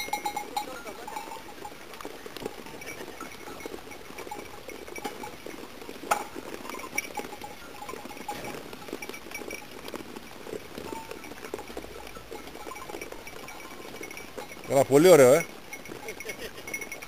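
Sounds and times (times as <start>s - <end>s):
animals clicking at metal feeder: 0.0s - 17.0s.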